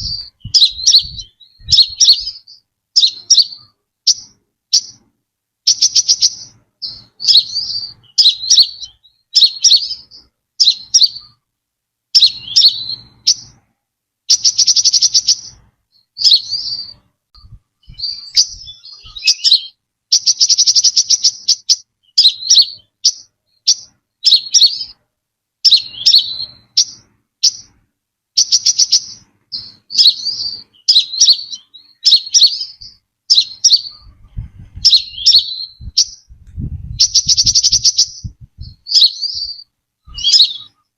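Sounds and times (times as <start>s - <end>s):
bird chirping and trilling: 0.0s - 5.0s, 5.6s - 11.4s, 12.1s - 13.6s, 14.3s - 25.0s, 25.6s - 27.8s, 28.4s - 40.9s.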